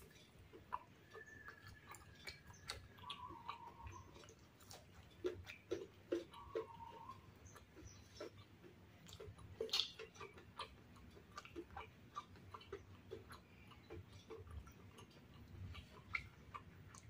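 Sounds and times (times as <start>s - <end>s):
person chewing crispy food: 0.0s - 17.0s.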